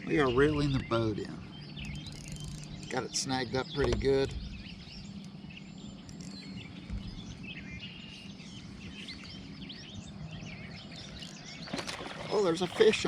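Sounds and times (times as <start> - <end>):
bird chirps and calls: 0.0 - 13.0.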